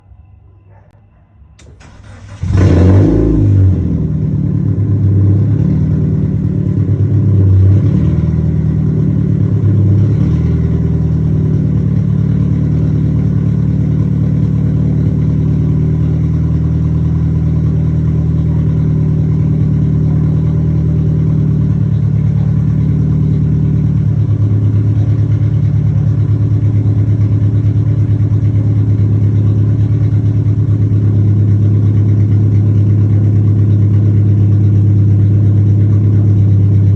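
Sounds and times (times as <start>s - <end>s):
car engine starting and idling: 1.6s - 36.9s.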